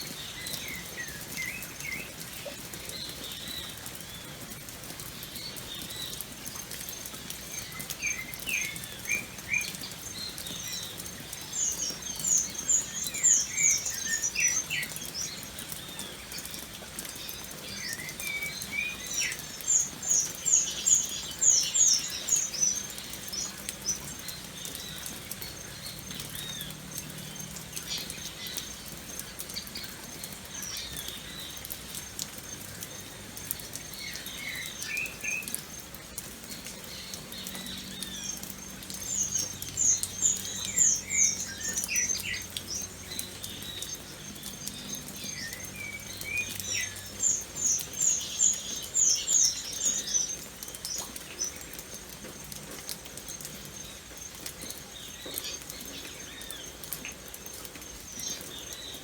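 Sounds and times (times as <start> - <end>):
birds chirping rapidly: 0.0 - 59.0
steady rain pattering: 0.0 - 59.0.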